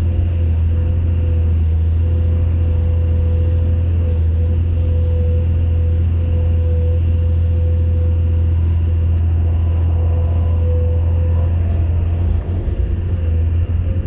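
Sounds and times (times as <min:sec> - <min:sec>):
excavator diesel engine drone: 0:00.0 - 0:14.0
faint steady whine: 0:00.0 - 0:14.0.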